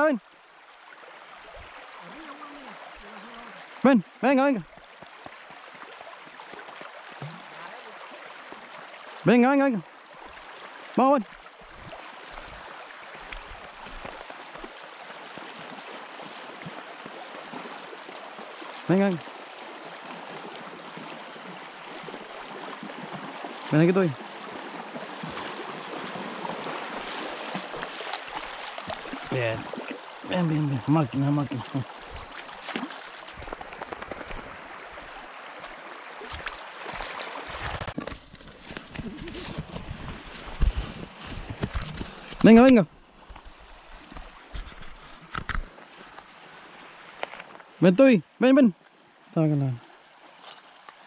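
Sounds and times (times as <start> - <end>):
river water rushing over riffles: 0.0 - 40.9
flowing stream: 0.0 - 51.0.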